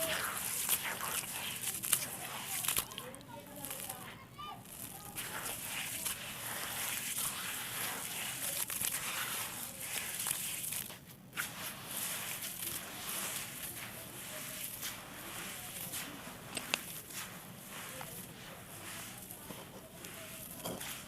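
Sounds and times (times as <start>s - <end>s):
clay crunching and crackling: 0.0s - 21.0s.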